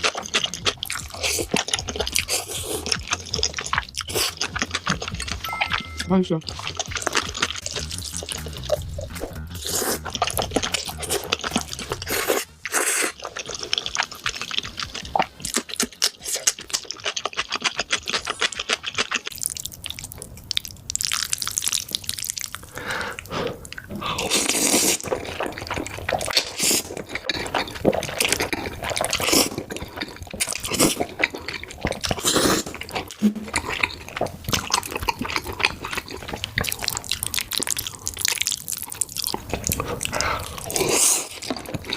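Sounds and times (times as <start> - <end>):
slurping and chewing noodles: 0.0 - 41.9.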